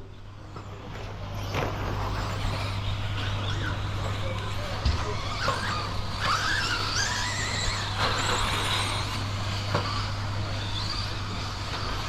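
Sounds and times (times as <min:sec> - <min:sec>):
electric motors whining: 0:00.0 - 0:12.0
steady low hum: 0:00.0 - 0:12.0.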